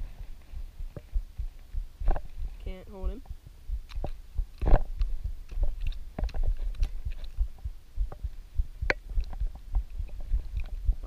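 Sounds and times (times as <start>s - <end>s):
microphone handling thumps and clicks: 0.0s - 11.0s.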